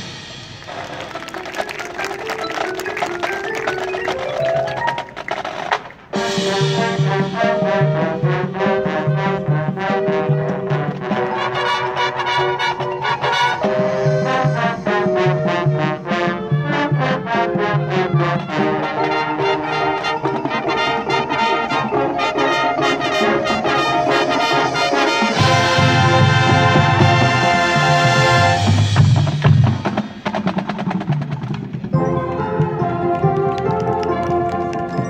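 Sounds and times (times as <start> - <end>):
marching band playing: 0.0 - 35.0.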